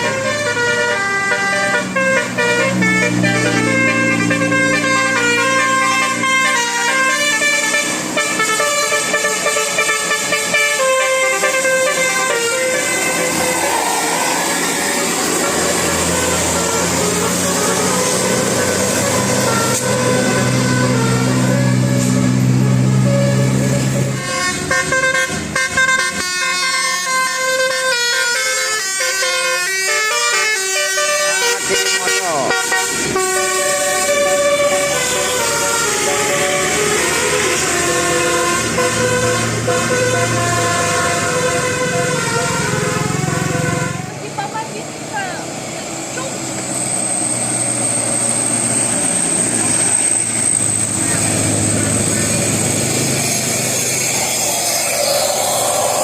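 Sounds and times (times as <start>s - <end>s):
bus musical horn playing a tune: 0.0s - 45.5s, 48.0s - 54.9s.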